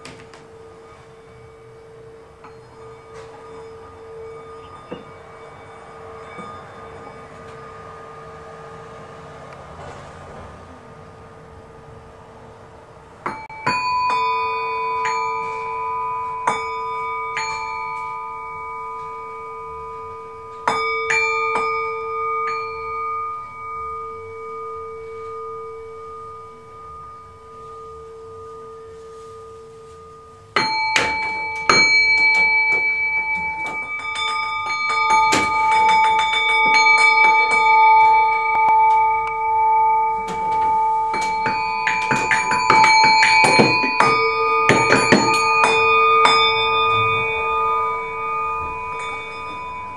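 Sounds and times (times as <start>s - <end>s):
metal chimes ringing: 0.0s - 49.9s.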